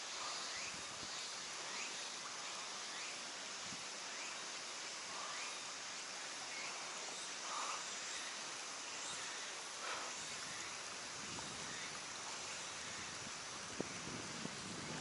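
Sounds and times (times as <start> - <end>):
creek background hiss: 0.0 - 15.0.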